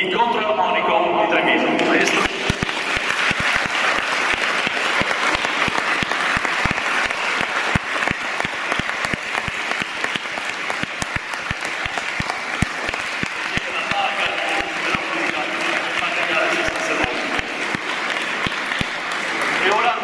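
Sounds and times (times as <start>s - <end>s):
crowd applauding: 1.8s - 20.0s
close single claps: 2.1s - 20.0s.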